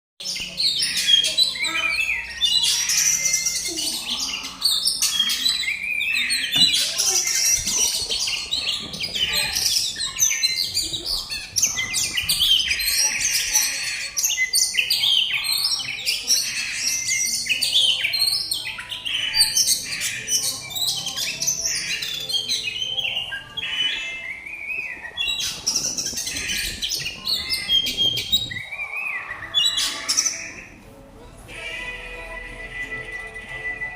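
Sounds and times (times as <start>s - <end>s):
bird singing: 0.2s - 33.9s.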